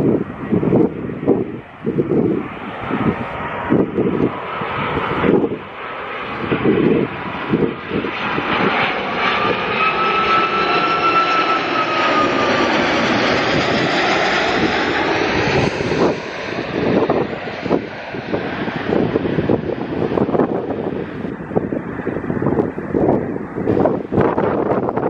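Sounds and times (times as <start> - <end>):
jet engine roar and whine: 0.0 - 25.0
wind buffeting microphone: 0.0 - 25.0.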